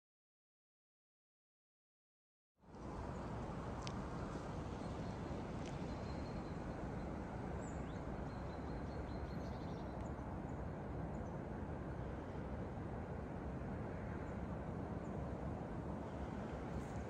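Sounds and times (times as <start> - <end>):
low outdoor background rumble: 2.6 - 17.0.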